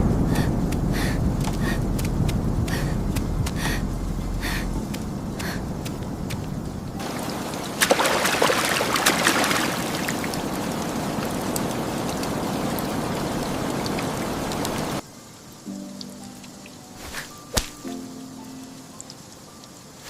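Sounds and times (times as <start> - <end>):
heavy rain: 0.0 - 20.0
running water: 0.0 - 20.0.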